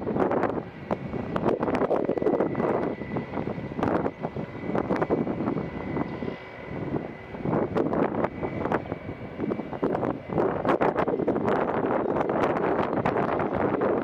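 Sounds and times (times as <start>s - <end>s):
airplane engines running: 0.0s - 14.0s
wind buffeting microphone: 0.0s - 14.0s.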